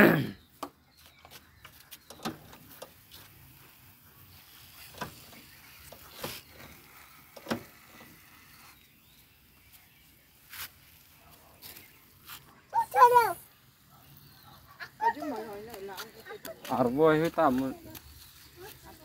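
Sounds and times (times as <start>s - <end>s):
sprayer misting hiss: 2.4s - 14.3s, 15.4s - 19.0s.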